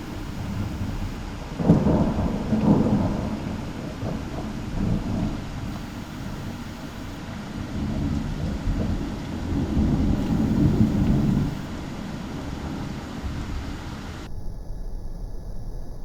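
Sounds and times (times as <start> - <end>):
heavy rain hissing: 0.0 - 14.3
rolling thunder rumbling: 0.0 - 15.4.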